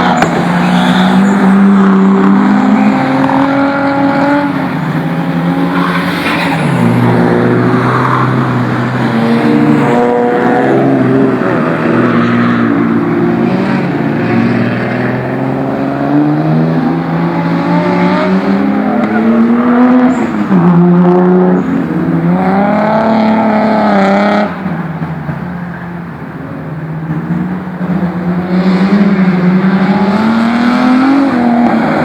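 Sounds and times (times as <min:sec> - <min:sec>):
car engine accelerating hard: 0:00.0 - 0:25.4, 0:26.0 - 0:32.0.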